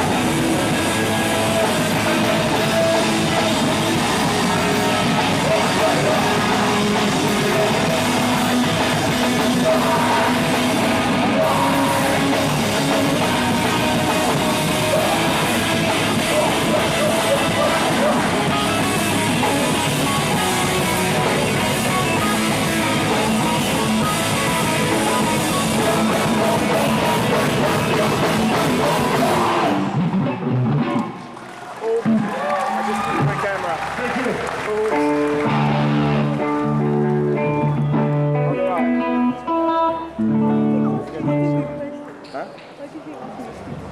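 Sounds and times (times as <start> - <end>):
rock band playing: 0.0 - 31.3, 32.0 - 42.2.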